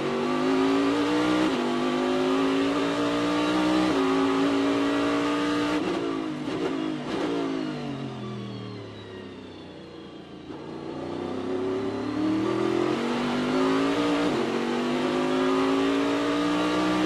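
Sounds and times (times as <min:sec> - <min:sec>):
racing car engine revving: 0:00.0 - 0:07.7, 0:10.5 - 0:17.0.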